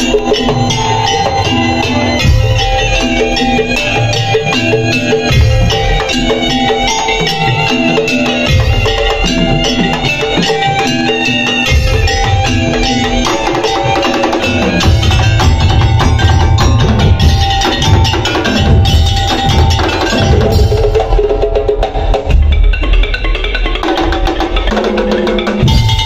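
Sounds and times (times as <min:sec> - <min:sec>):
heavy low drum beat: 0:00.0 - 0:10.8, 0:11.6 - 0:26.0
mallet instruments playing a tune: 0:00.0 - 0:26.0.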